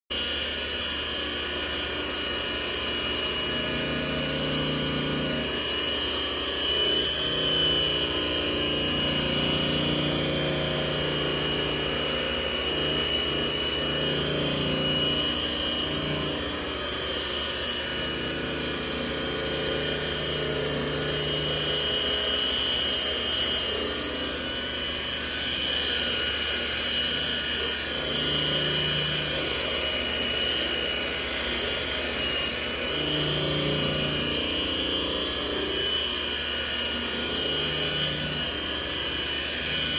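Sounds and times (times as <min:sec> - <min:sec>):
electric polishing machine whining: 0:00.1 - 0:39.9.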